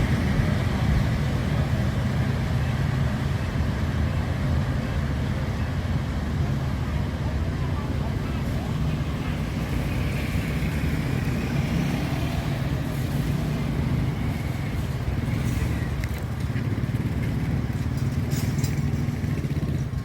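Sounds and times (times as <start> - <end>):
diesel railcar engine drone: 0.0 - 20.0.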